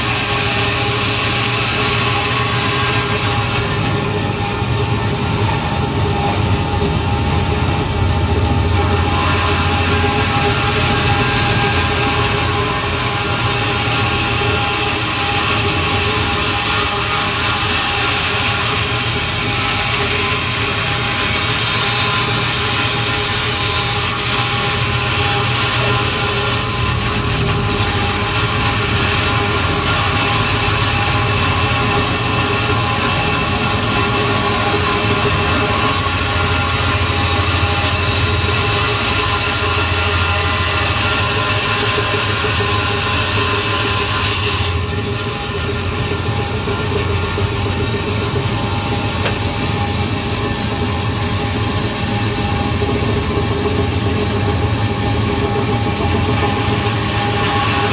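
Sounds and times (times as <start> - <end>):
band saw motor hum: 0.0 - 57.9.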